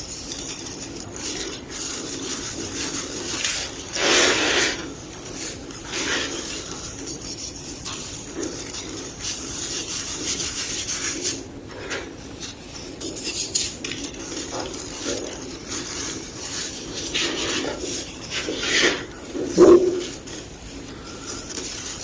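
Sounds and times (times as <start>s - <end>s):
chalk crunching and crumbling: 0.0s - 22.0s.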